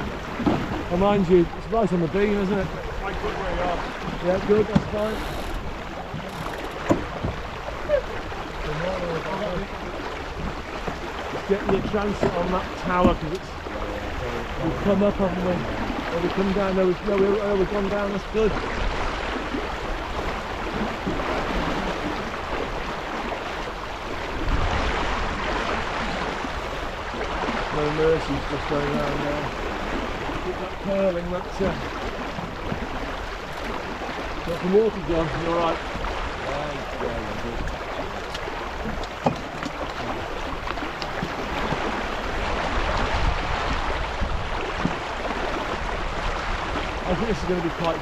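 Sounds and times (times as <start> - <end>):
water rushing along a hull: 0.0 - 48.0
wind buffeting microphone: 0.0 - 48.0.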